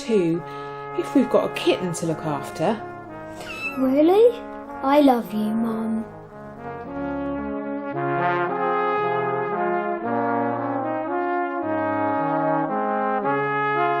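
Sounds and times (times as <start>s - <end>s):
brass instruments playing chords: 0.0s - 4.8s, 5.4s - 14.0s.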